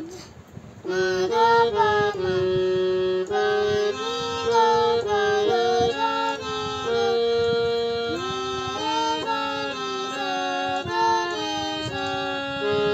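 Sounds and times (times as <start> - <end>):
child singing: 0.8 - 12.9
harmonium melody: 0.8 - 12.9.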